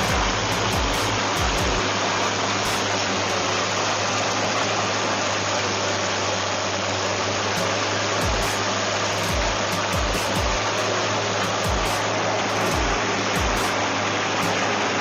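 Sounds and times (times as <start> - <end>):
heavy engine humming: 0.0 - 15.0
loud even hiss: 0.0 - 15.0.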